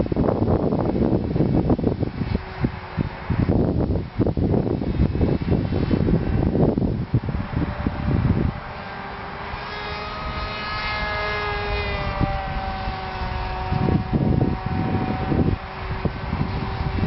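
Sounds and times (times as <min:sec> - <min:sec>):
model airplane motor whining: 0:00.0 - 0:17.0
wind buffeting microphone: 0:00.0 - 0:17.0.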